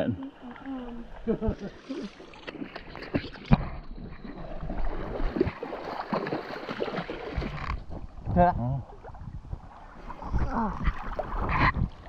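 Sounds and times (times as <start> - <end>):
water sloshing and splashing: 0.2 - 12.0.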